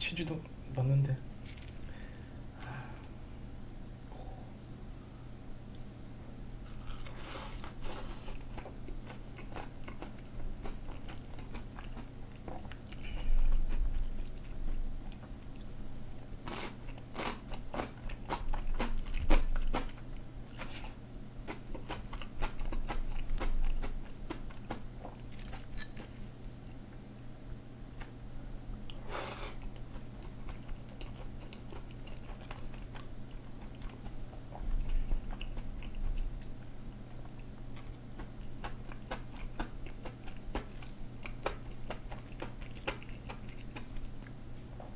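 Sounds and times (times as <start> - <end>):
crunchy chewing of fried food: 1.4 - 2.3, 6.6 - 44.9.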